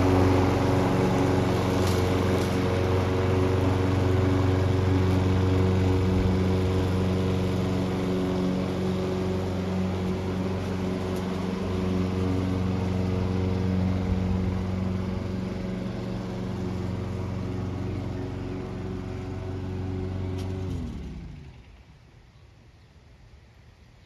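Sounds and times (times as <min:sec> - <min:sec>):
lawn mower engine running: 0:00.0 - 0:23.9.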